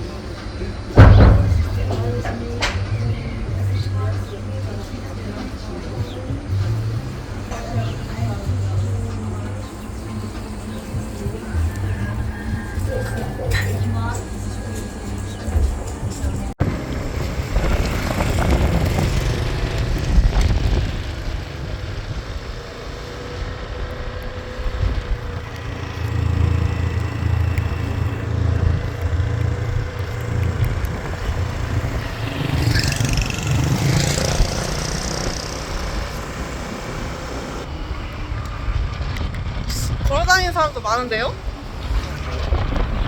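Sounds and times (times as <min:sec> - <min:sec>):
vehicle engine and road rumble: 0:00.0 - 0:43.0.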